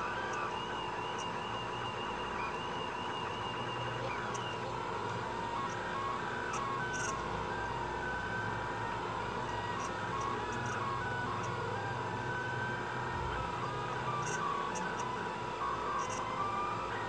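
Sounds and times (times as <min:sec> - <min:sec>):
steady tone and hum: 0:00.0 - 0:17.0
stepper motors whining: 0:00.0 - 0:17.0.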